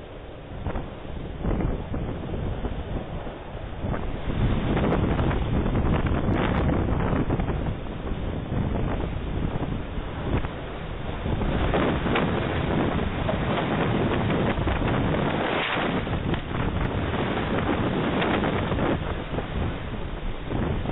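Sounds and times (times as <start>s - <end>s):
storm wind on microphone: 0.0s - 20.9s.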